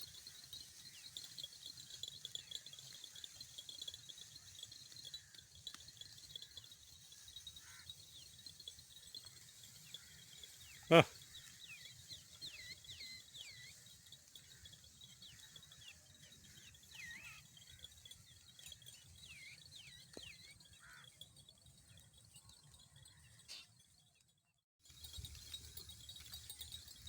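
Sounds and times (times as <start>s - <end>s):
birds chirping: 0.2s - 24.1s.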